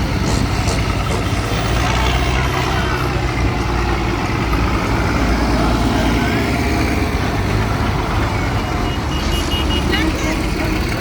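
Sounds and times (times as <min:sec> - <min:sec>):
heavy diesel engines running: 0:00.0 - 0:11.0.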